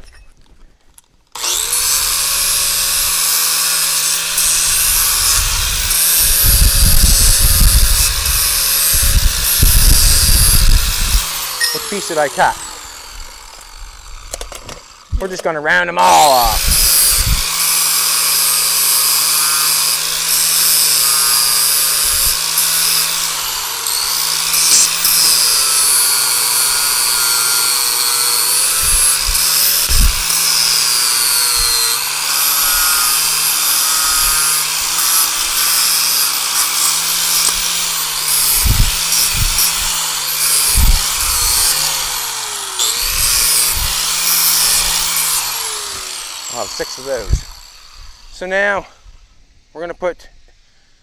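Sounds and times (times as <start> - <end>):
electric grinder grinding metal: 1.3 - 48.6.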